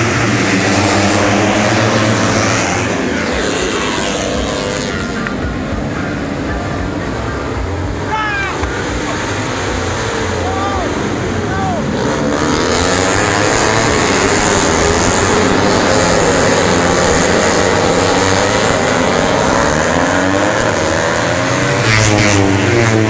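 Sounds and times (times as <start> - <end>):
racing motorcycles revving: 0.0 - 23.0.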